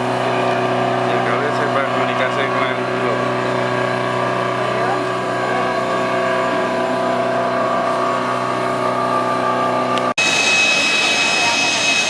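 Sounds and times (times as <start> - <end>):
jet engines whining and roaring: 0.0 - 12.0.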